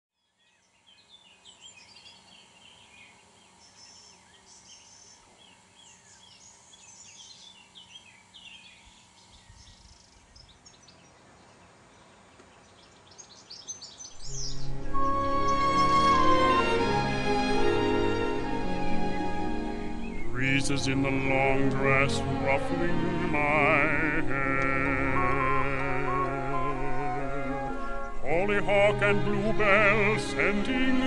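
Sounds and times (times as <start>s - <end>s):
birds chirping: 0.2s - 31.0s.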